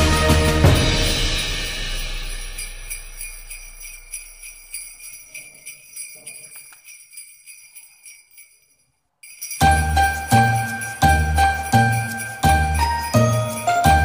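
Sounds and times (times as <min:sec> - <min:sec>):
jingle bells shaken rhythmically: 0:00.0 - 0:14.0.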